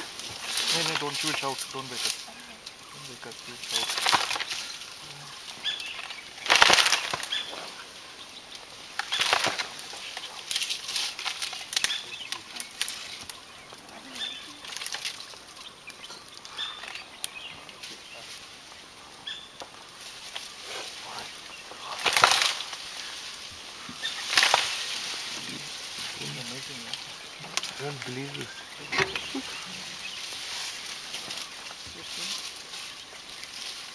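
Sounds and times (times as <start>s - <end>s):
leaves and branches rustling: 0.0s - 33.9s.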